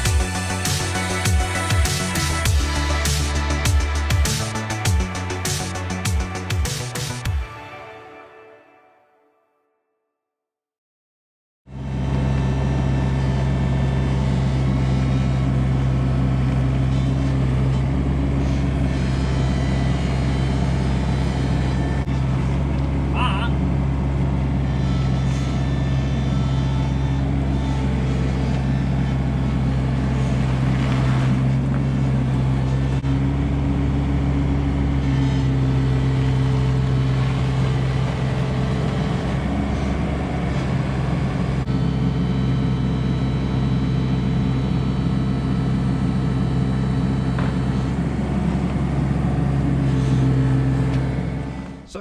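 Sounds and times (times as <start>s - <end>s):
excavator diesel engine running: 0.0s - 7.3s, 11.7s - 52.0s.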